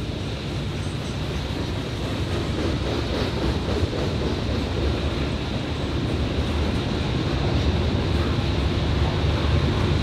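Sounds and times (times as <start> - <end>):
freight train wheels on rails: 0.0 - 10.0.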